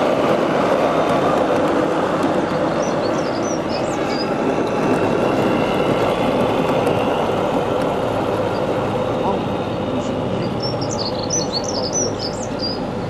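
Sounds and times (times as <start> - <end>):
model train rolling rumble: 0.0 - 13.0.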